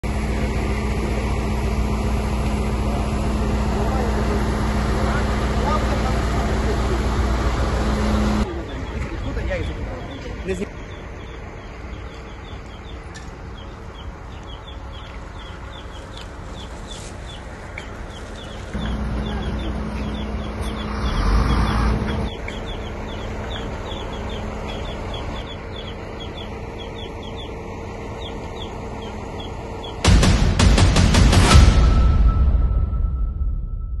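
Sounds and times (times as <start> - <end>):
low engine sound: 0.0 - 32.0
outdoor background noise: 0.0 - 32.8
birds chirping: 0.3 - 30.3.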